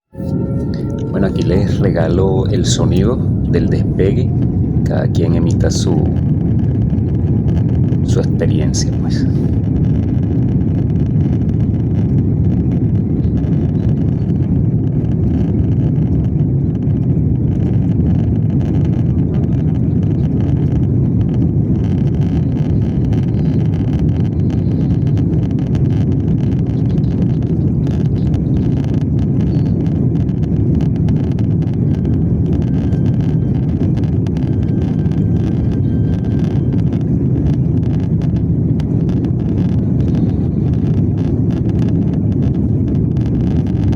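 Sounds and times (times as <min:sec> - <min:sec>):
airliner engines rumbling: 0:00.0 - 0:43.9.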